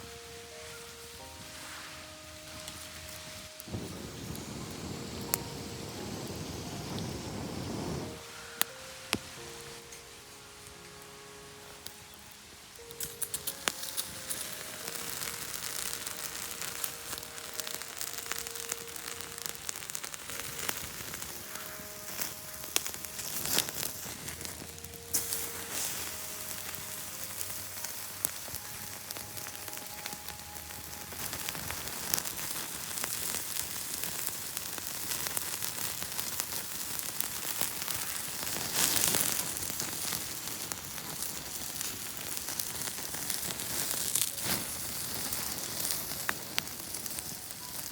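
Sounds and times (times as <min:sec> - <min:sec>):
campfire crackling and hissing: 0:00.0 - 0:47.9
fire popping: 0:00.0 - 0:47.9.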